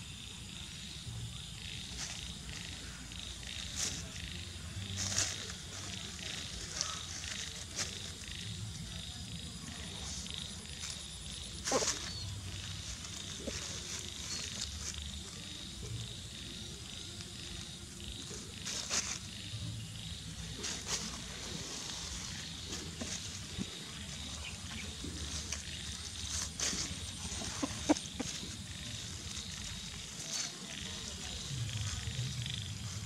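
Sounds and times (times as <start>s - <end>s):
rustles and clicks in grass: 0.4s - 33.0s.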